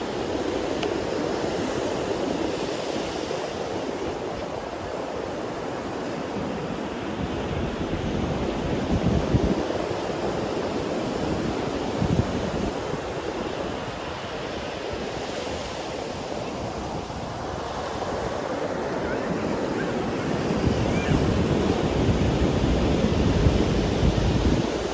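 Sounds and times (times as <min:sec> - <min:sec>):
ocean waves breaking: 0:00.0 - 0:24.9
wind gusts on microphone: 0:00.0 - 0:24.9.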